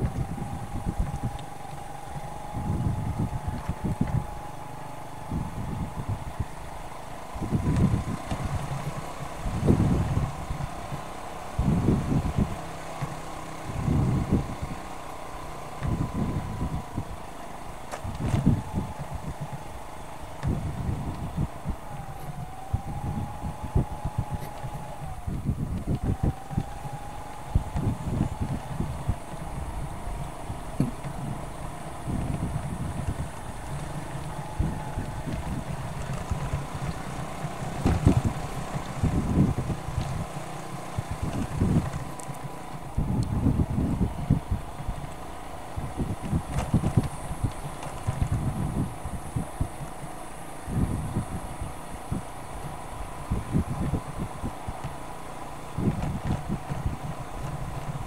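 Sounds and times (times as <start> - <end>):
motorcycle engine rumbling: 0.0 - 58.0
wind buffeting microphone: 0.0 - 58.0.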